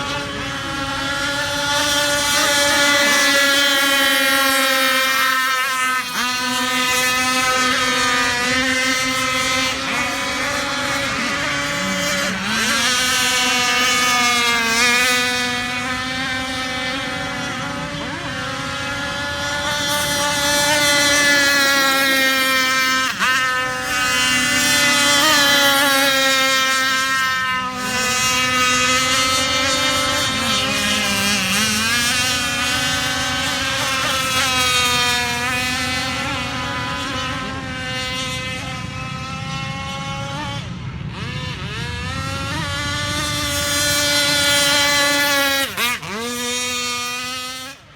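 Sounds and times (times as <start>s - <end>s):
model boat motor whining: 0.0s - 47.9s.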